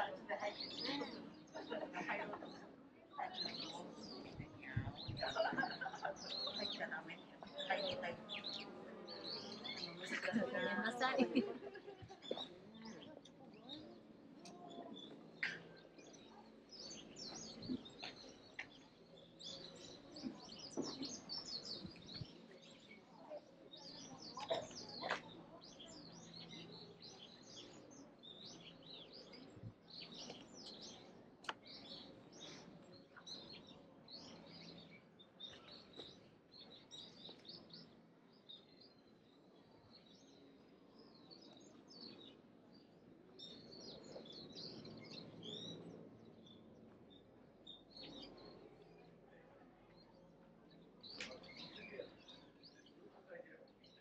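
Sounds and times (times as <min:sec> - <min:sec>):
birds chirping: 0:00.0 - 0:49.1.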